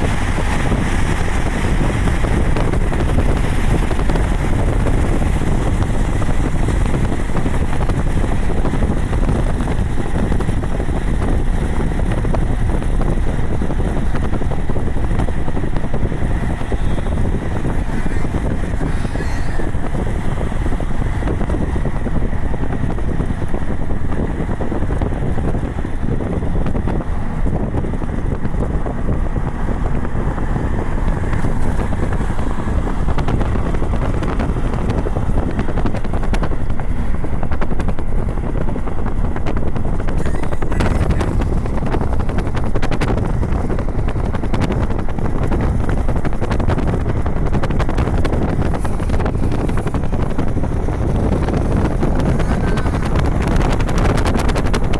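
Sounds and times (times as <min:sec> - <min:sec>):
steady low rumble: 0:00.0 - 0:54.9
wind buffeting microphone: 0:00.0 - 0:54.9.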